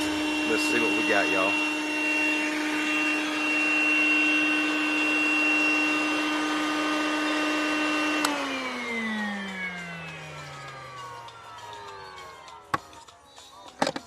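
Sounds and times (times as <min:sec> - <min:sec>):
small vacuum motor whining: 0:00.0 - 0:14.0.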